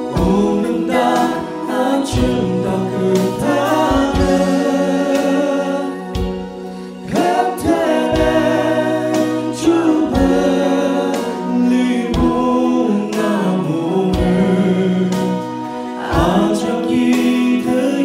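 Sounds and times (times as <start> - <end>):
man singing gospel: 0.0 - 18.0.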